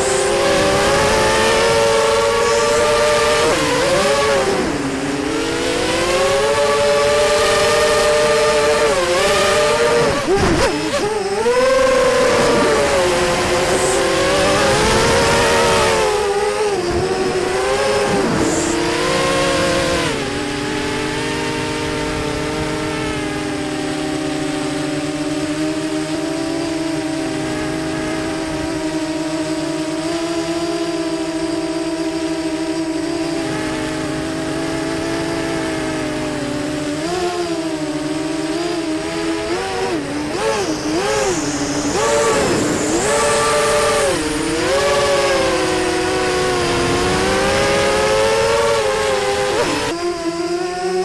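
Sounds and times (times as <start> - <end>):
quadcopter motors whining: 0.0 - 51.0.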